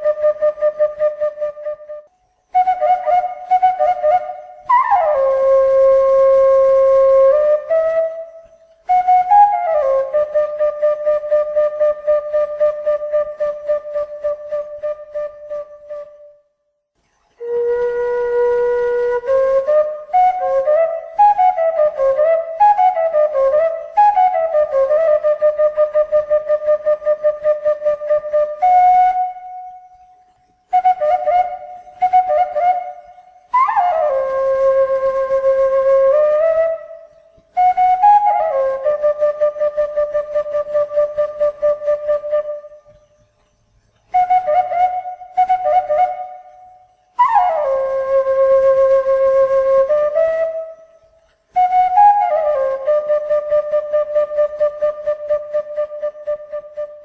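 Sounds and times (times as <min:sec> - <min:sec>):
solo flute melody: 0:00.0 - 0:57.0.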